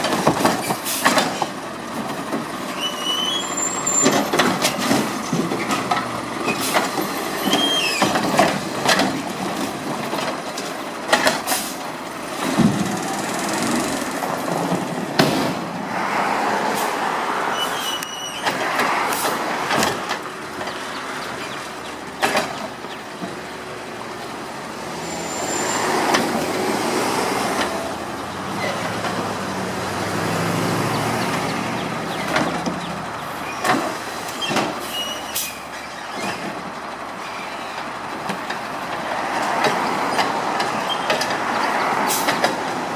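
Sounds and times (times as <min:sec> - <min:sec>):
garbage truck engine running: 0:00.0 - 0:15.9, 0:18.2 - 0:42.9.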